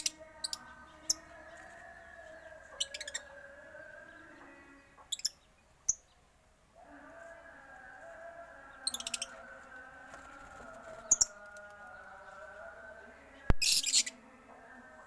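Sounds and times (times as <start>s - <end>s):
cage birds chirping: 0.0s - 15.0s.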